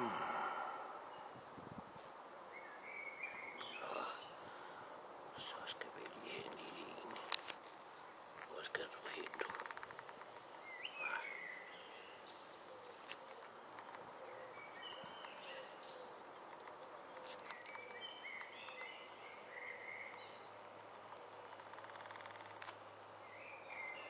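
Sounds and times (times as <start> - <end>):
low outdoor hiss: 0.0 - 24.0
small birds chirping faintly: 0.0 - 24.0.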